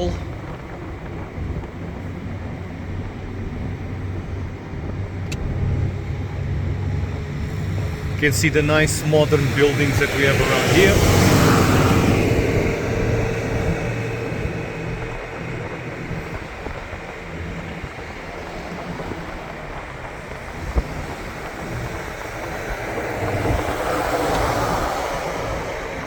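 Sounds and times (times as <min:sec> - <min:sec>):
car road and tyre rumble: 0:00.0 - 0:26.0.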